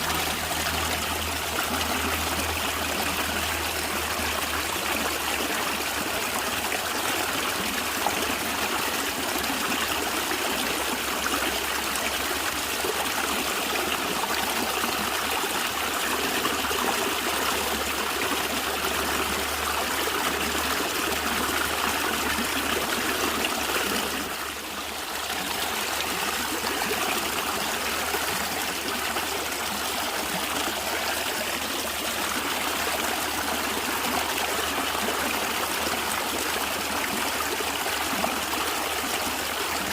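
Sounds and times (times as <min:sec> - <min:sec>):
water gurgling: 0:00.0 - 0:39.9.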